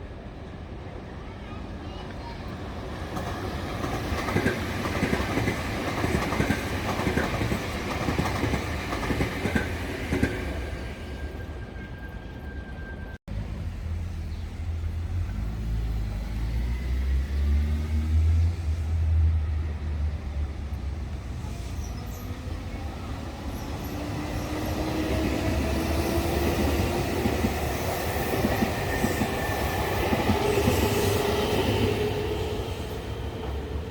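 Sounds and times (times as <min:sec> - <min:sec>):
train wheels rumbling on rail: 0:01.9 - 0:33.9.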